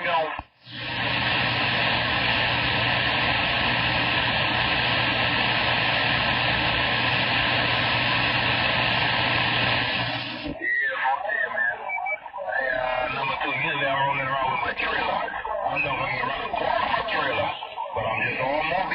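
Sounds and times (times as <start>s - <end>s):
radio static hiss: 0.0s - 18.9s.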